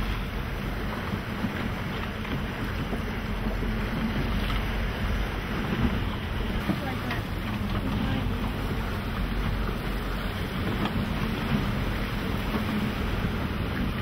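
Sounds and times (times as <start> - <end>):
surf and wind: 0.0 - 14.0.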